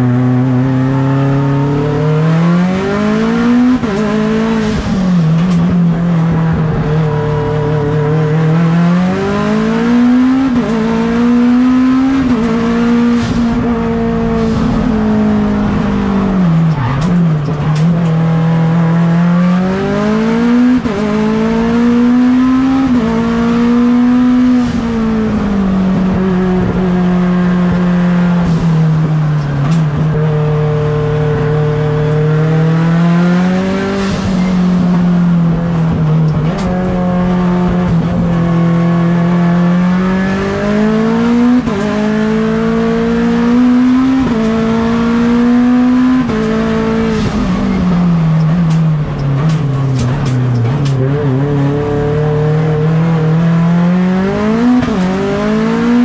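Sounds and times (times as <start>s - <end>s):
car engine at full throttle: 0.0s - 56.0s.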